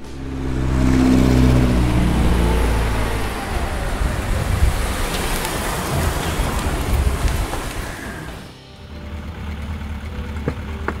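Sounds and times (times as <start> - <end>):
road traffic rushing: 0.0 - 11.0
vehicle engine humming: 0.0 - 11.0.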